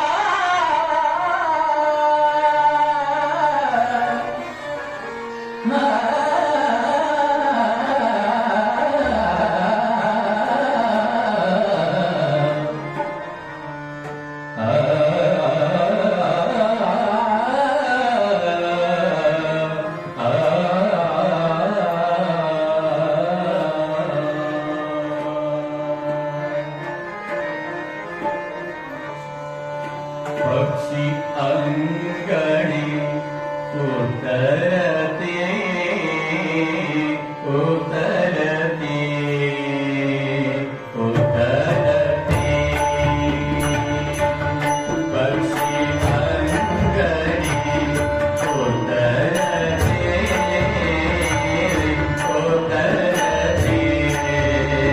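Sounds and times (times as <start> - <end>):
man singing devotional song: 0.0 - 27.7, 30.2 - 54.9
instrumental accompaniment: 0.0 - 54.9.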